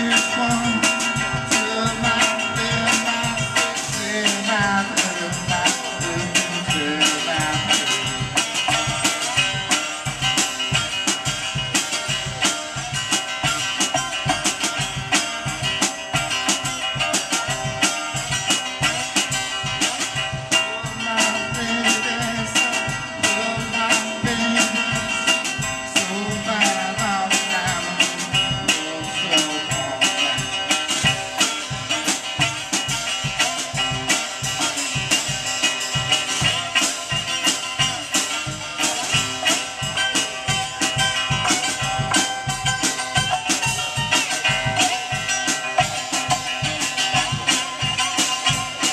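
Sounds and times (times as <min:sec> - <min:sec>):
drum kit beat: 0:00.0 - 0:48.9
electric guitar: 0:00.0 - 0:48.9.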